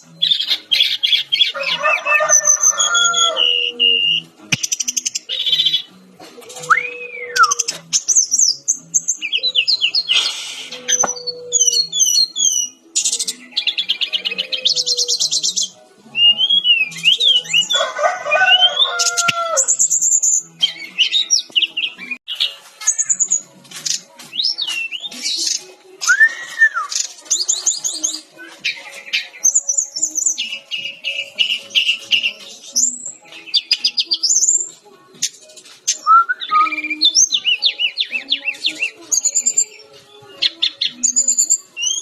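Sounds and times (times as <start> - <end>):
flycatcher singing: 0.0 - 6.0, 6.6 - 42.0.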